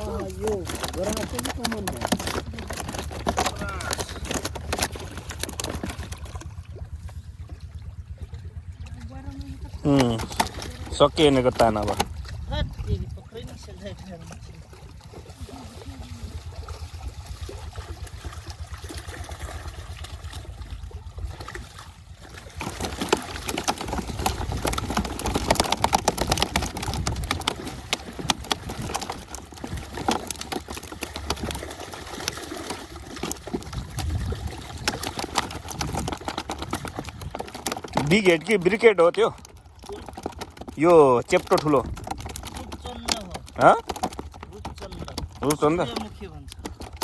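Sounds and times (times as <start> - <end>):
fish thrashing in shallow water: 0.0 - 47.0
water splashing: 0.0 - 47.0.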